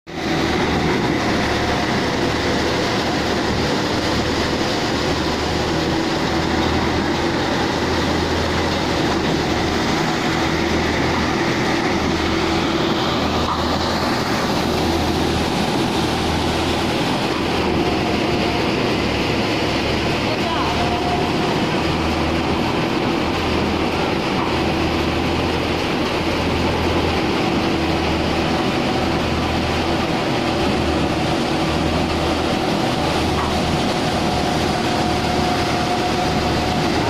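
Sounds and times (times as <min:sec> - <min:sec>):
grain thresher running: 0:00.1 - 0:37.0.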